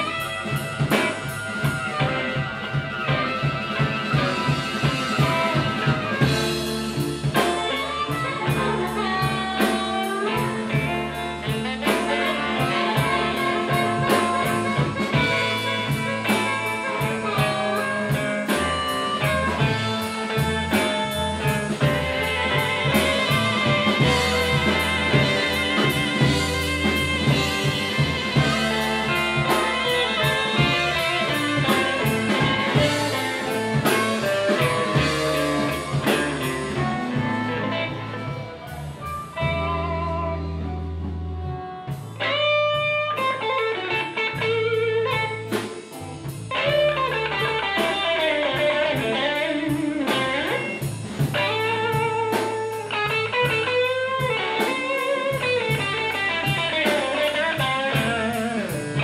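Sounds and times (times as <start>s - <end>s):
bass guitar: 0.0s - 59.0s
drums: 0.0s - 59.0s
electric guitar bending notes: 0.0s - 59.0s.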